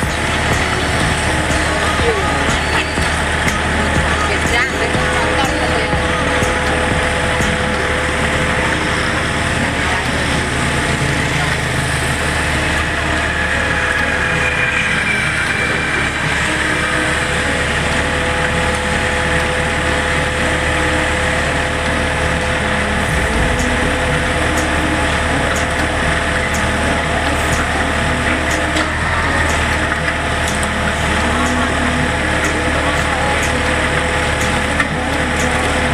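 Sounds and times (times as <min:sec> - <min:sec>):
diesel engine running with whine: 0:00.0 - 0:35.9.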